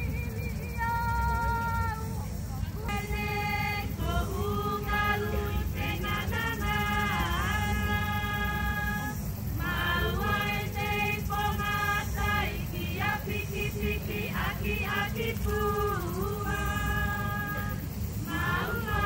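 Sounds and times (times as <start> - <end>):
high voices singing: 0.0 - 19.0
steady low rumble: 0.0 - 19.0.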